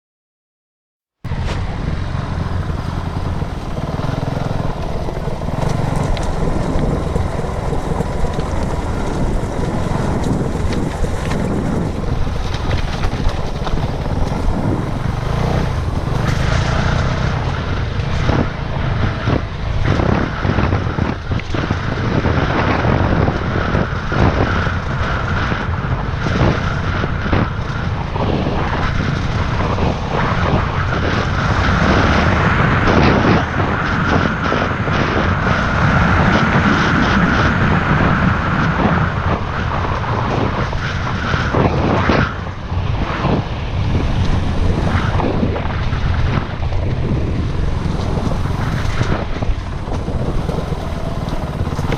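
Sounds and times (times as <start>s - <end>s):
dirt bike engine running: 1.2s - 51.9s
wind buffeting microphone: 1.2s - 51.9s.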